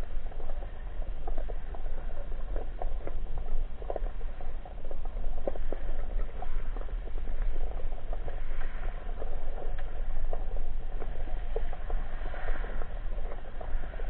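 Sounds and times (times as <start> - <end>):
crackling clicks: 0.0 - 14.0
underwater low rumble: 0.0 - 14.0.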